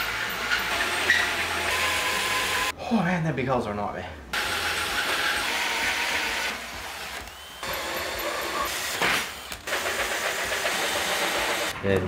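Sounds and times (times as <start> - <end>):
drill hole saw cutting steel: 0.0 - 2.7, 4.4 - 11.7.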